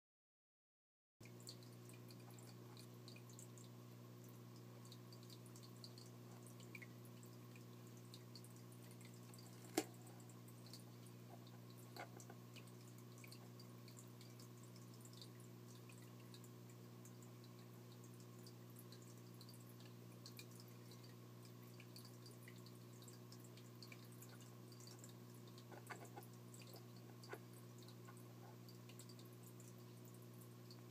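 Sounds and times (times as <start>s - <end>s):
aquarium filter humming: 1.2s - 30.9s
water dripping: 1.2s - 30.9s.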